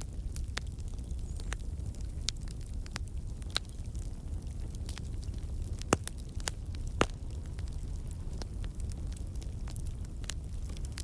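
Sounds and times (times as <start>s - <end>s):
campfire logs crackling: 0.0s - 11.0s
low rumble of flames: 0.0s - 11.0s.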